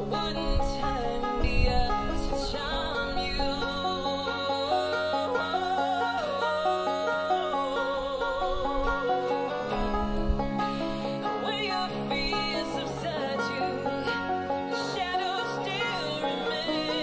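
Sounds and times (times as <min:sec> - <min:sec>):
banjo picking: 0:00.0 - 0:17.0
person singing: 0:00.0 - 0:17.0.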